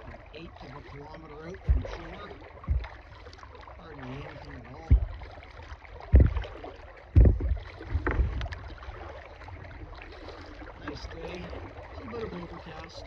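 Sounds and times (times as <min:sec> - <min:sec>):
paddle splashing in water: 0:00.0 - 0:13.0
water washing: 0:00.0 - 0:13.0.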